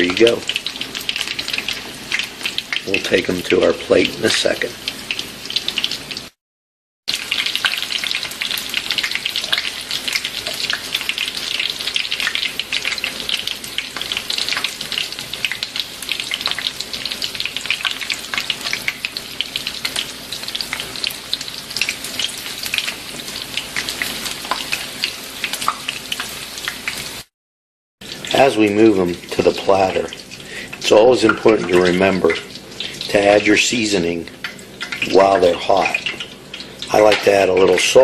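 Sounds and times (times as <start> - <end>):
food deep-frying in hot oil: 0.0 - 6.4, 7.1 - 27.3, 28.0 - 38.0.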